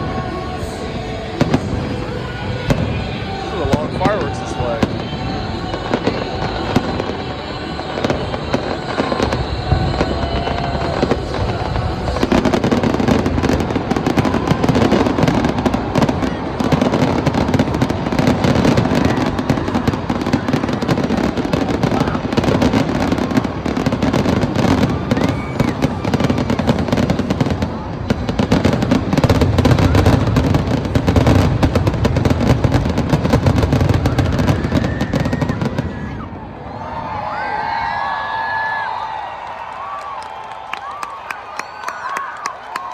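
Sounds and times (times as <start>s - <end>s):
fireworks bursting and crackling: 0.0s - 36.5s.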